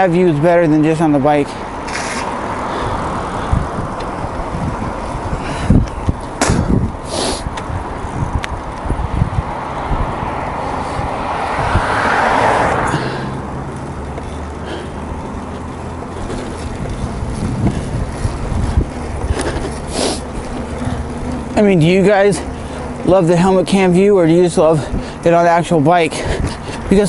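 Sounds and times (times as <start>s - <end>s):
car passing: 0.0s - 27.0s
wind rumbling on microphone: 1.6s - 27.0s.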